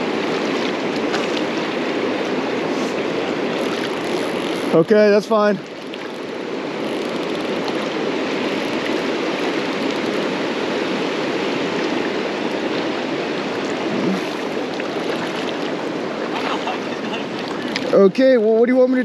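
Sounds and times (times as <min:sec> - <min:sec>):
river water rushing over rocks: 0:00.0 - 0:18.6.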